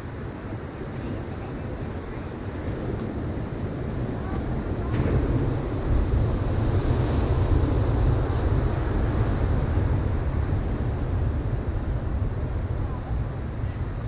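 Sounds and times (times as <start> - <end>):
wind buffeting microphone: 0.0 - 14.0
surf breaking on beach: 2.7 - 14.0.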